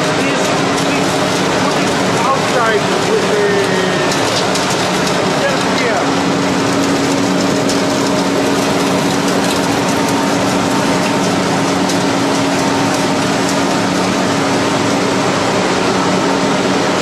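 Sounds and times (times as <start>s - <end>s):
constant low hum: 0.0s - 17.0s
mill machinery running: 0.0s - 17.0s.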